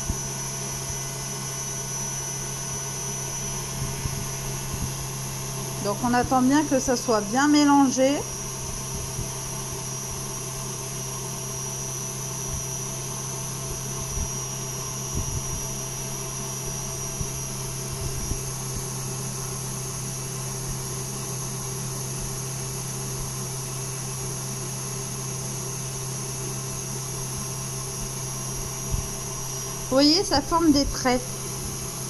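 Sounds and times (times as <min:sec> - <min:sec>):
stand mixer whirring: 0:00.0 - 0:07.4, 0:08.2 - 0:30.2, 0:30.8 - 0:32.0.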